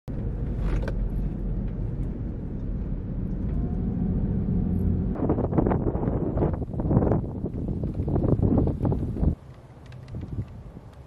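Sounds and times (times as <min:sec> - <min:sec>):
car engine and road noise: 0:00.1 - 0:11.0.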